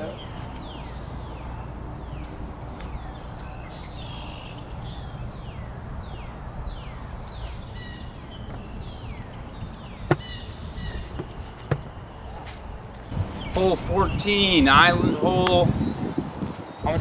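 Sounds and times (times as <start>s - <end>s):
low outdoor rumble: 0.0s - 15.8s
songbirds singing: 0.0s - 17.0s.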